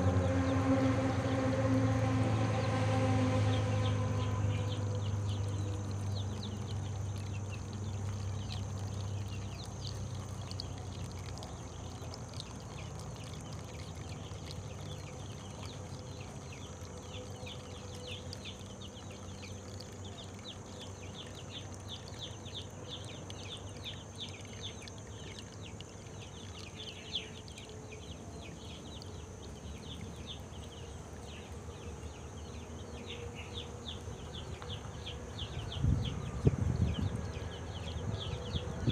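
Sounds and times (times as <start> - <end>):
low hum: 0.0 - 38.9.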